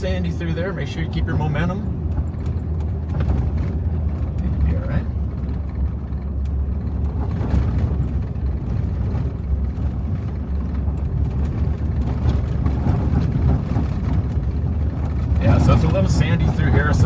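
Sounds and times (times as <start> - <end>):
car driving through sand: 0.0 - 17.0
faint rattles: 0.0 - 17.0.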